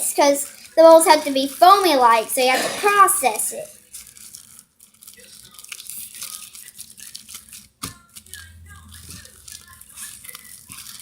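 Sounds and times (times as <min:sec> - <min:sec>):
plastic bag of soapy water squishing: 0:00.0 - 0:11.0.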